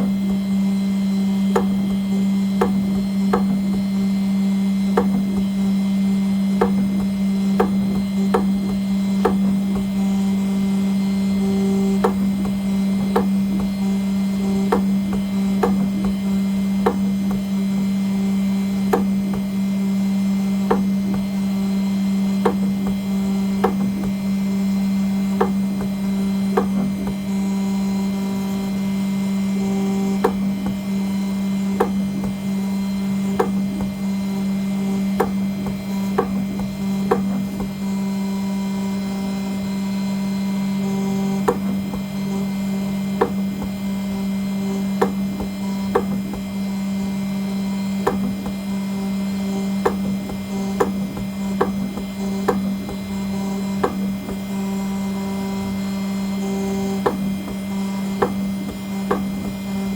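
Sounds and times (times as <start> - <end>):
cutter ticking on metal: 0.0 - 59.9
spindle humming: 0.0 - 59.9.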